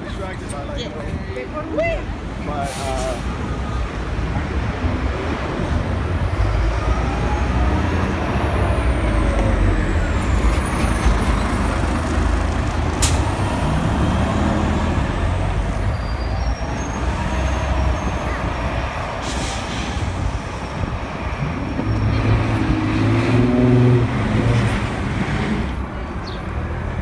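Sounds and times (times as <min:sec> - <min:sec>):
diesel bus accelerating past: 0:02.7 - 0:27.0.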